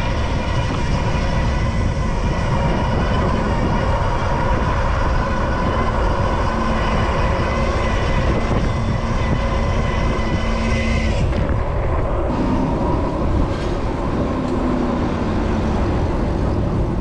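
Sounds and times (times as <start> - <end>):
electric motor whine: 0.0 - 17.0
wind rumble on microphone: 0.0 - 17.0.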